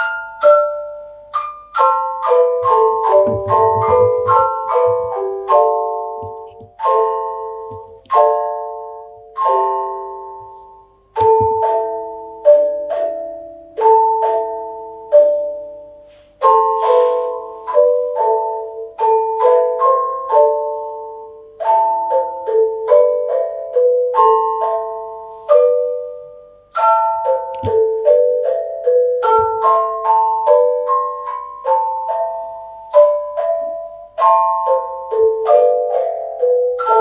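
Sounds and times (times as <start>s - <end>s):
music box playing slow tune: 0.0s - 37.0s.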